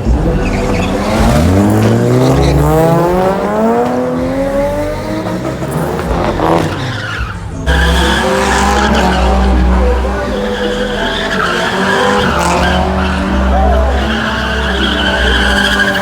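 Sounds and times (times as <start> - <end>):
another engine: 0.0 - 16.0
car engine accelerating: 0.0 - 16.0.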